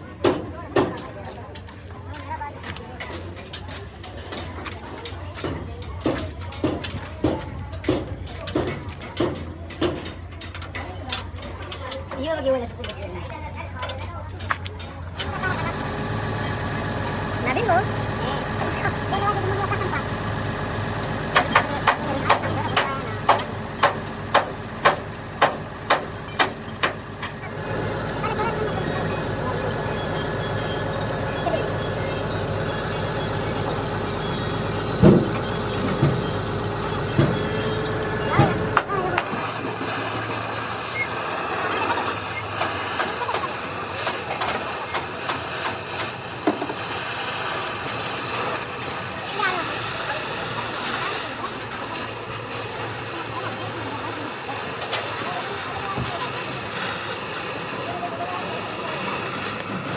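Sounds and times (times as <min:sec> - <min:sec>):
mechanical background noise: 0:00.0 - 0:59.9.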